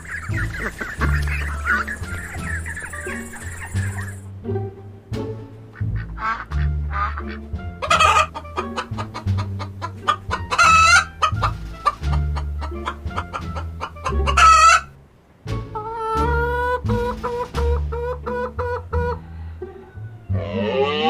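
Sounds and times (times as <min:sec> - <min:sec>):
chickens clucking: 0:00.0 - 0:04.3, 0:05.7 - 0:21.0
background music: 0:00.0 - 0:21.0.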